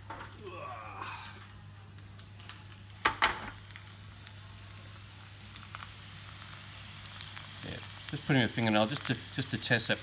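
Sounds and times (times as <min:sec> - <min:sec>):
faint sizzle in pan: 0:00.0 - 0:10.0.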